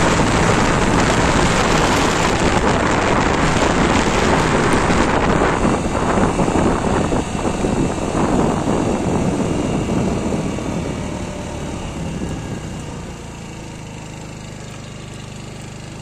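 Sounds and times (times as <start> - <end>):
wind noise: 0.0 - 13.4
scooter engine: 0.0 - 16.0.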